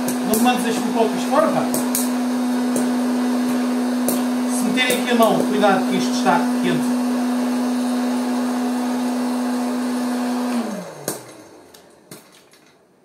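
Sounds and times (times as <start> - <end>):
popcorn maker humming: 0.0 - 12.8.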